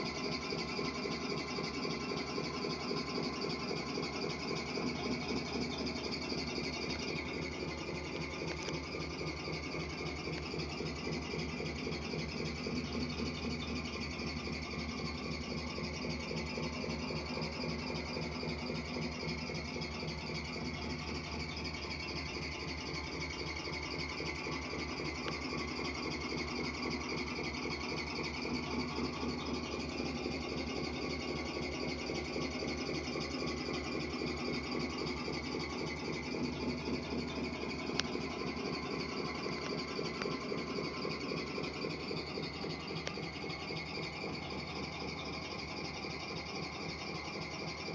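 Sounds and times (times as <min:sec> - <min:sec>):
simulated truck engine idling: 0:00.0 - 0:47.9
insects chirping: 0:00.9 - 0:47.9.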